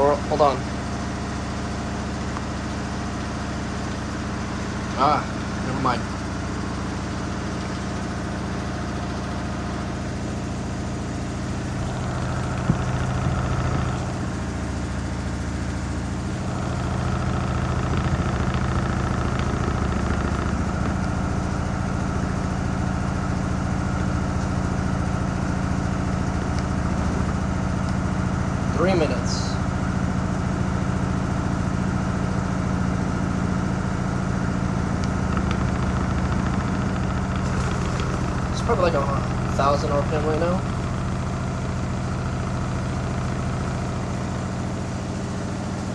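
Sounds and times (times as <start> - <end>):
washing machine spinning: 0.0 - 45.9.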